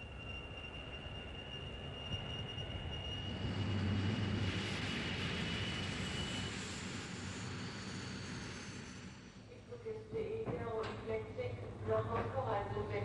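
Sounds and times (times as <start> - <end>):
turboprop engines whining: 0.0 - 13.0.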